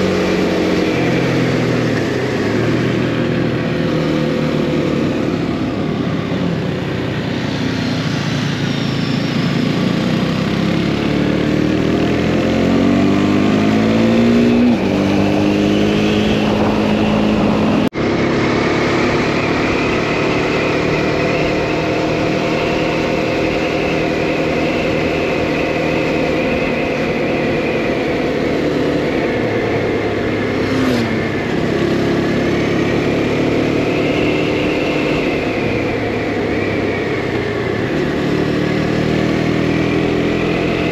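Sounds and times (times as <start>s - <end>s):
motorcycle engine revving: 0.0s - 40.9s
wind and road noise: 0.0s - 40.9s.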